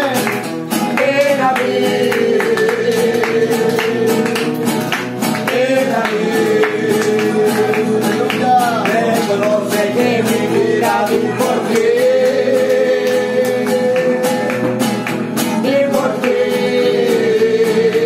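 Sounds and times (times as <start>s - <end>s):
acoustic guitars strumming: 0.0s - 18.0s
two men singing: 0.0s - 18.0s.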